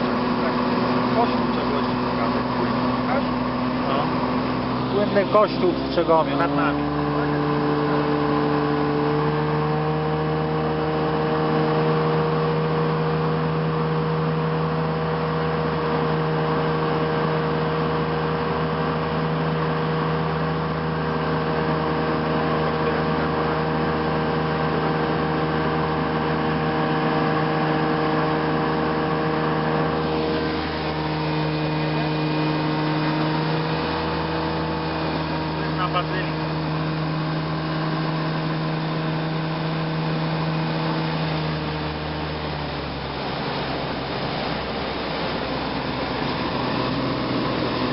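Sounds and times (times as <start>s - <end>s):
airplane engine and propeller droning: 0.0s - 47.9s.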